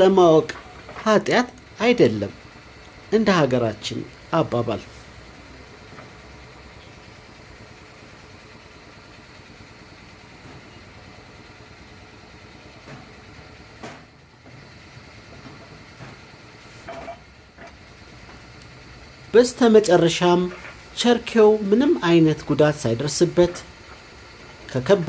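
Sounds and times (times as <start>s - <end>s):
tyre-changing machine humming: 0.0s - 25.0s.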